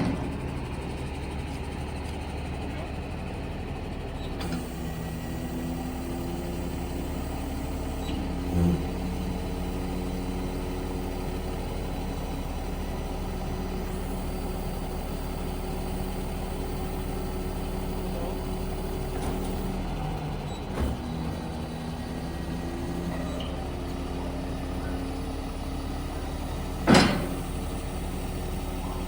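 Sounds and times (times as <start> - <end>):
diesel truck engine running: 0.0 - 29.0
hydraulic pump whining: 0.0 - 29.0.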